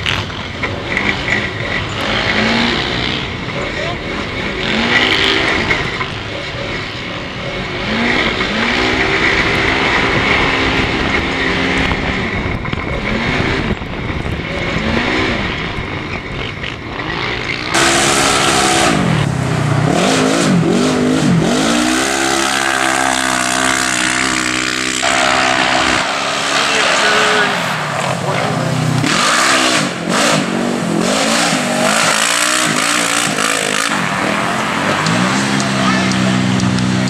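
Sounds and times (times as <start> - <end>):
constant rush of noise: 0.0 - 37.0
utility vehicle engine revving: 0.0 - 37.0
bright engine droning: 7.0 - 37.0.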